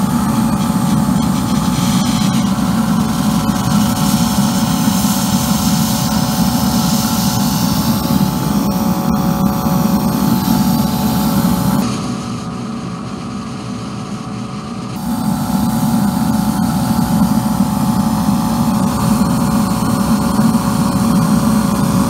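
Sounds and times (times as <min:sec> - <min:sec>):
steam jet hissing: 0:00.0 - 0:11.9, 0:15.0 - 0:22.0
boiler burner roaring: 0:00.0 - 0:22.0.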